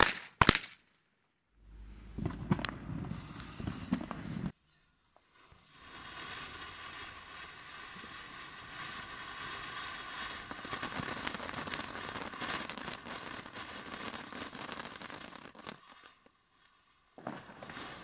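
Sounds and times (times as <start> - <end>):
firework fountain hissing and crackling: 2.0 - 18.0.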